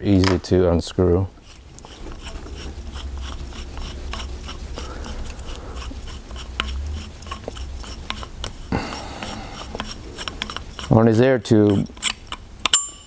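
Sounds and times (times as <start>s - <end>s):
metal rubbing: 0.9s - 13.0s.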